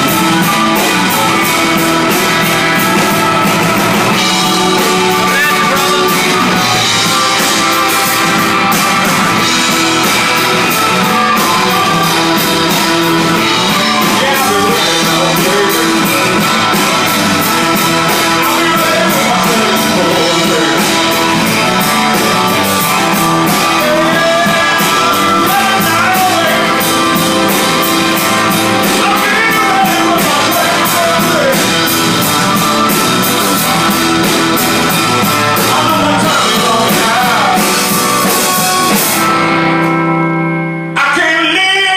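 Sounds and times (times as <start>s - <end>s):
person singing: 0.0s - 32.3s, 33.5s - 39.4s, 40.9s - 41.9s
drum kit with cymbal beat: 0.0s - 40.4s
combo organ: 0.0s - 41.7s
electric guitar: 0.0s - 41.9s.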